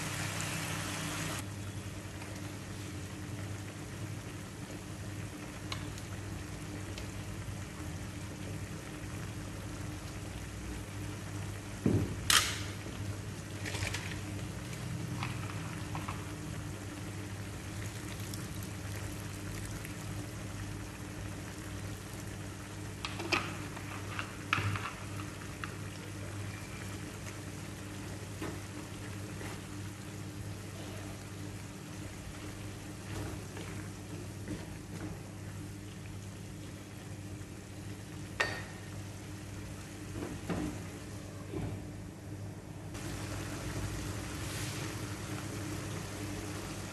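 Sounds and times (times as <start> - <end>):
meat simmering in a pan: 0.0 - 41.2, 42.9 - 46.9.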